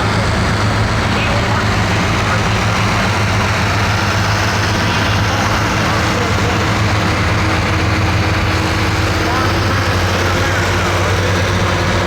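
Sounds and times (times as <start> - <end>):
heavy engine idling: 0.0 - 12.0
loud background din: 0.0 - 12.0.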